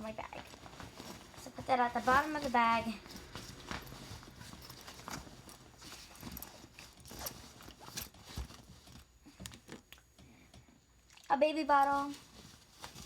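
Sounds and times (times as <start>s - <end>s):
items knocking and rustling: 0.0s - 10.8s, 11.8s - 13.0s.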